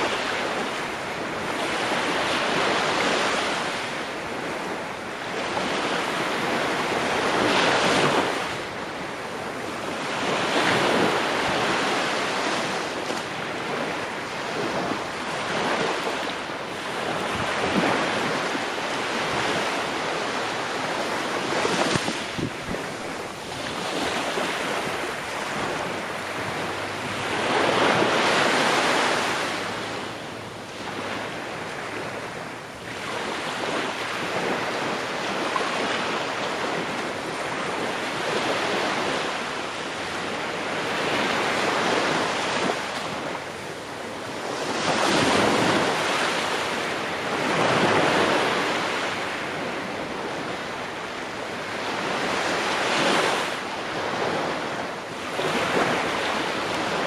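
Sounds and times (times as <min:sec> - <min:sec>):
ocean waves breaking on shore: 0:00.0 - 0:57.0
wind: 0:00.0 - 0:57.0.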